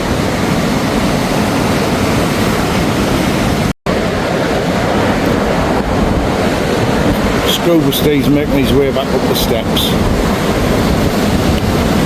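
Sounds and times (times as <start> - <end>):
sea surf breaking: 0.0 - 12.0
wind rushing over microphone: 0.0 - 12.0.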